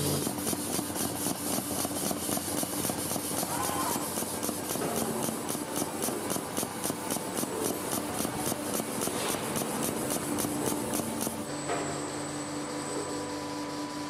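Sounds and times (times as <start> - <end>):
fast high hissing ticks: 0.0 - 11.5
machinery humming: 0.0 - 14.0.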